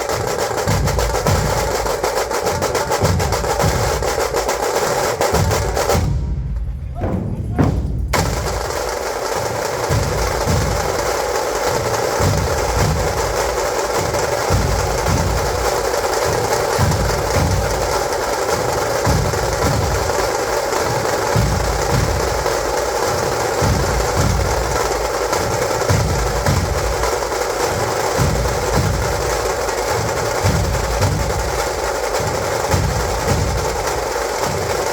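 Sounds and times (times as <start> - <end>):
heavy low drum beats: 0.0 - 34.9
high crackling drumming: 0.0 - 34.9.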